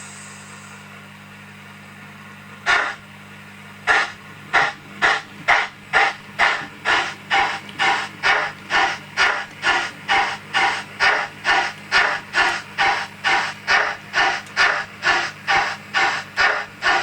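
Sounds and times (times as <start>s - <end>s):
steam exhaust chuffs from speaker: 0.0s - 1.7s, 2.5s - 17.0s
steady low hum: 0.0s - 17.0s.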